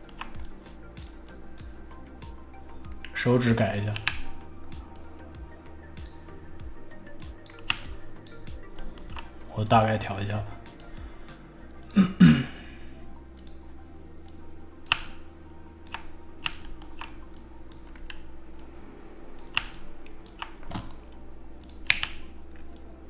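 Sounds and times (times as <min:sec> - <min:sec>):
keyboard and mouse clicks: 0:00.0 - 0:12.1, 0:13.3 - 0:23.0.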